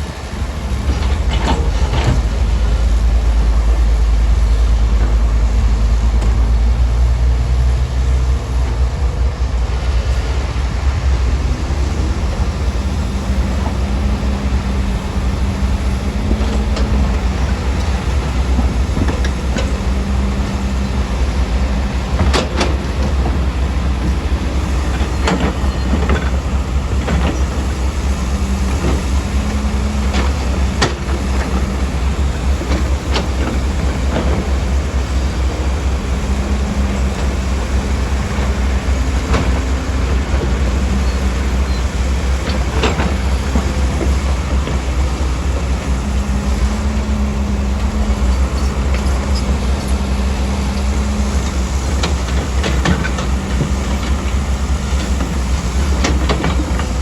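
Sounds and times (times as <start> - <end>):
diesel engine rumble: 0.0 - 57.0.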